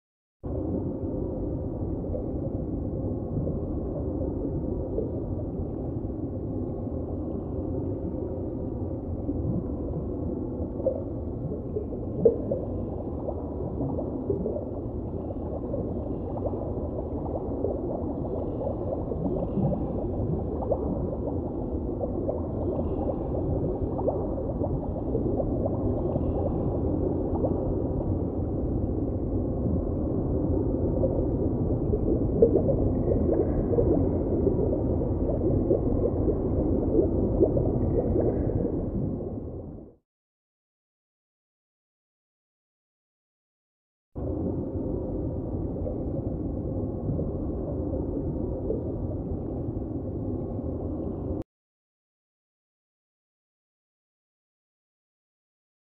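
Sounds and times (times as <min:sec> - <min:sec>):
underwater rushing and gurgling: 0:00.5 - 0:40.0, 0:44.2 - 0:51.4.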